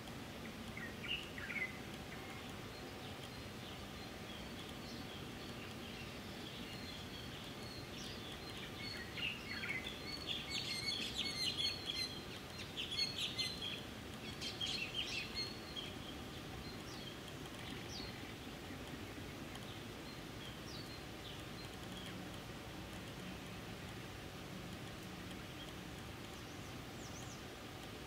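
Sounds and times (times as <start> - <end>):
outdoor background hiss: 0.0 - 28.0
small birds chirping: 0.0 - 28.0.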